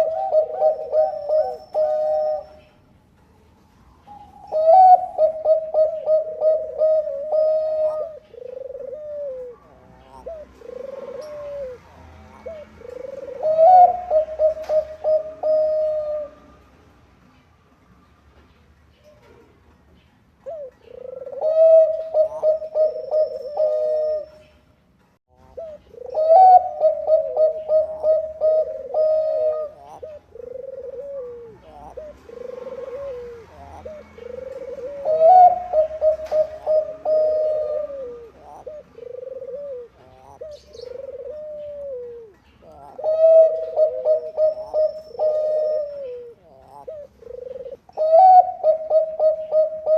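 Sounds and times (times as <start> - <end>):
dove cooing: 0.0 - 2.9, 3.8 - 16.6, 20.4 - 24.6, 25.3 - 49.9.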